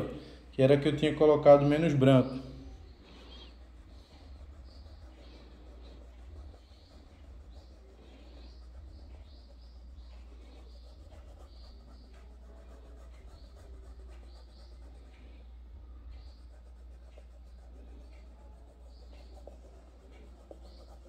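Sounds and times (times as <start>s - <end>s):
steady low hum: 0.0s - 21.0s
paintbrush scraping on canvas: 2.7s - 15.4s, 16.0s - 21.0s.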